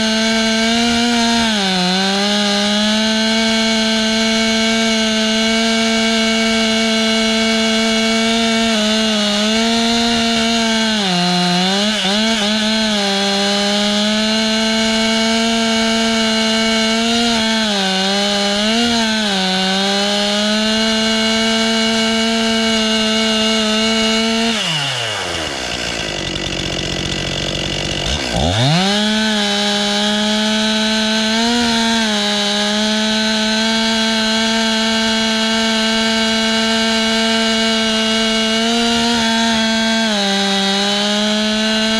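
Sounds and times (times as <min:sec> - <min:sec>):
chainsaw cutting a log: 0:00.0 - 0:41.9.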